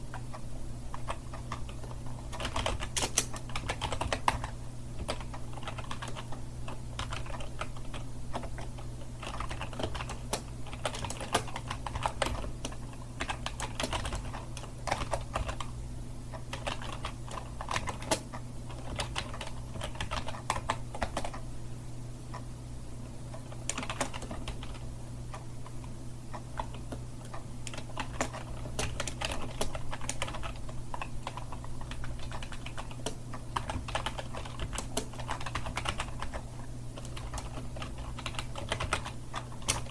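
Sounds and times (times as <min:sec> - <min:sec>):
steady low hum: 0:00.0 - 0:39.9
typing on computer keyboard: 0:00.1 - 0:15.7, 0:16.3 - 0:21.4, 0:23.3 - 0:24.8, 0:26.6 - 0:39.9.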